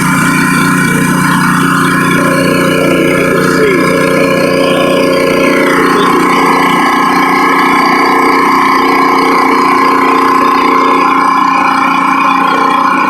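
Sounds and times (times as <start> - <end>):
pressure washer engine running: 0.0 - 13.0
water spraying on concrete: 0.0 - 13.0.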